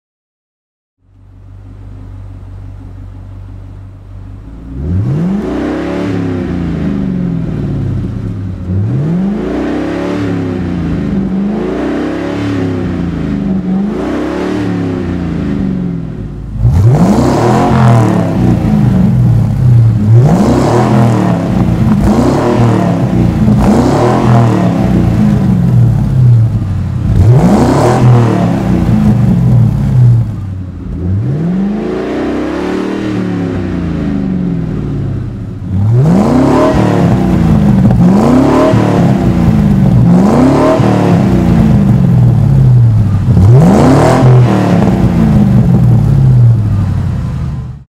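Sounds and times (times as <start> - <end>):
car engine idling and revving: 1.0 - 47.9.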